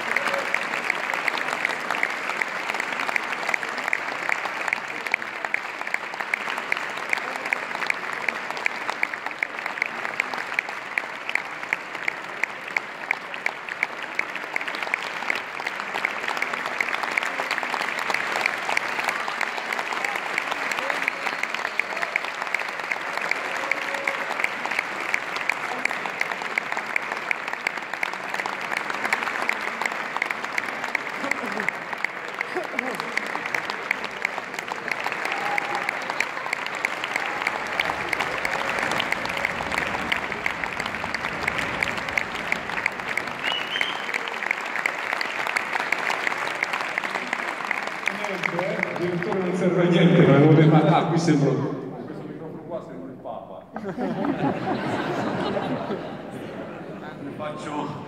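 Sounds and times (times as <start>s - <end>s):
audience applauding: 0.0s - 51.4s, 53.8s - 58.0s.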